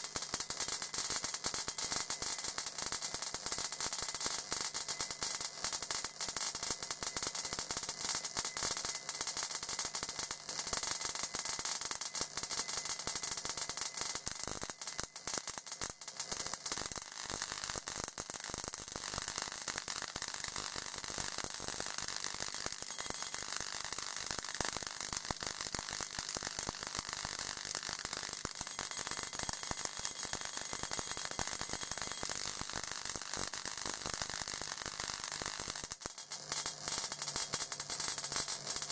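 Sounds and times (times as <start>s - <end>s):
high-voltage sparking crackle: 0.0s - 38.9s.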